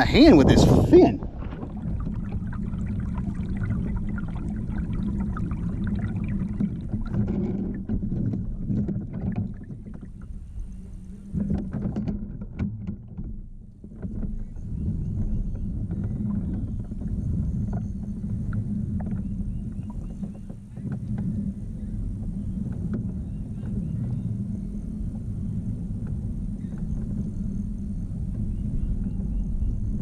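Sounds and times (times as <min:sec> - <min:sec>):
water lapping against hull: 0:00.0 - 0:30.0.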